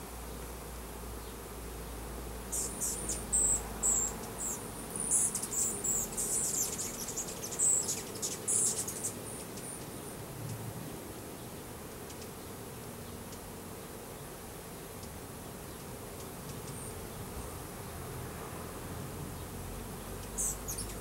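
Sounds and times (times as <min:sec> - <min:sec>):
bees buzzing: 0:00.3 - 0:21.0.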